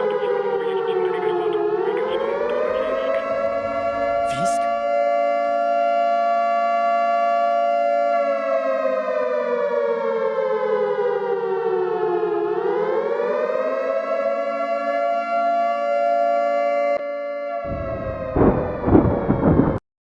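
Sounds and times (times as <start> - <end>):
air-raid siren wailing: 0.0 - 19.8.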